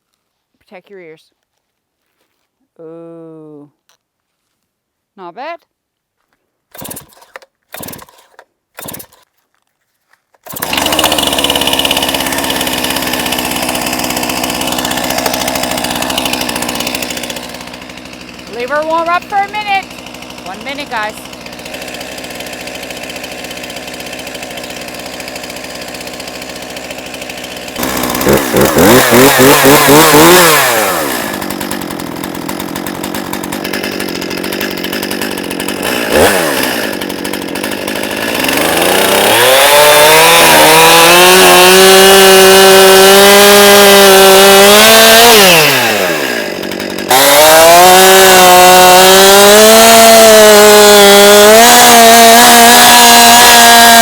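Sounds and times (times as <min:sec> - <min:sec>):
chainsaw idling and revving: 0:06.7 - 0:09.3, 0:10.4 - 0:54.0.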